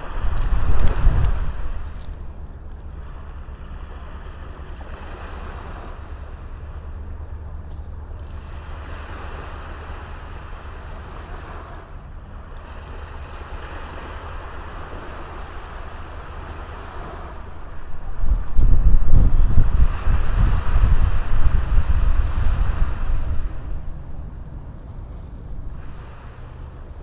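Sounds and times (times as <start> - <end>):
small waves washing onto beach: 0.0 - 27.0
wind rumble on microphone: 0.0 - 27.0.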